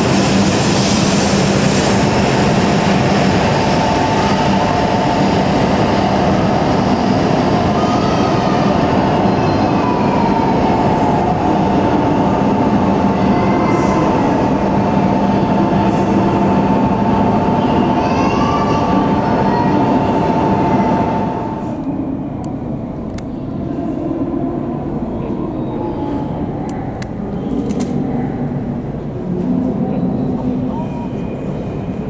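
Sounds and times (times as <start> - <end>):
train running noise: 0.0 - 32.0.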